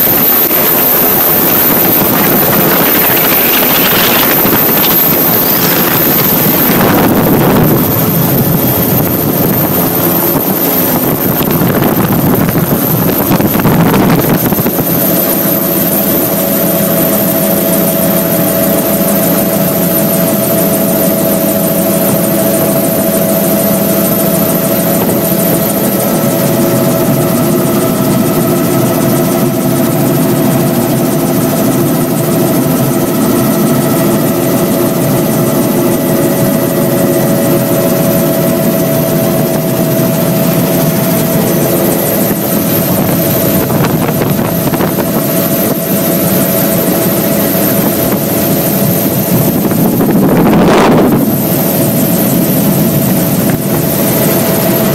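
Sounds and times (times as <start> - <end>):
helicopter engine and rotor: 0.0 - 54.9
steady whine: 0.0 - 54.9.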